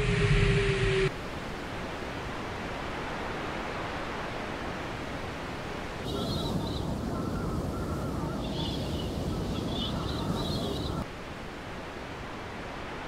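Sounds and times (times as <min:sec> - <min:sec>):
wind and rain hiss: 0:00.0 - 0:13.0.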